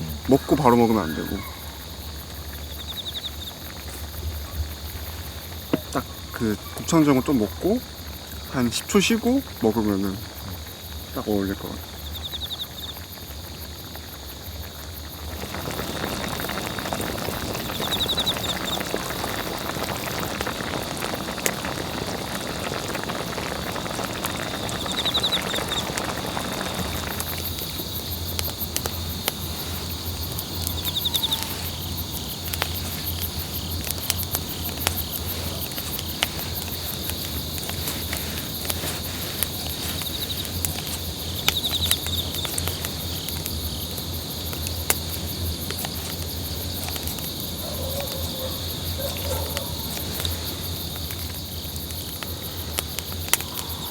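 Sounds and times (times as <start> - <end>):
broad hiss: 0.0 - 47.6, 48.5 - 53.9
insects chorus: 0.0 - 53.9.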